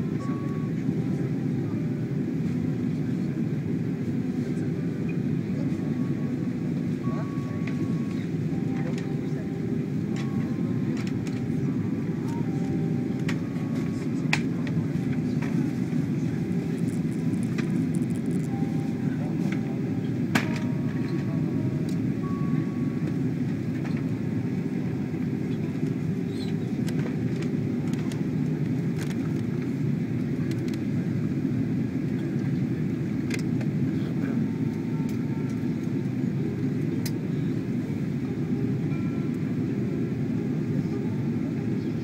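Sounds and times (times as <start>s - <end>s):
jet engine rumble in cabin: 0.0s - 42.0s.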